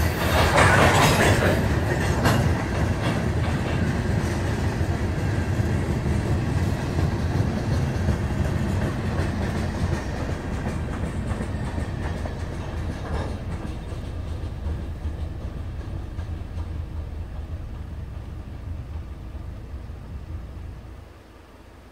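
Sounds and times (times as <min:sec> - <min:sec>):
freight train cars rolling: 0:00.0 - 0:21.9.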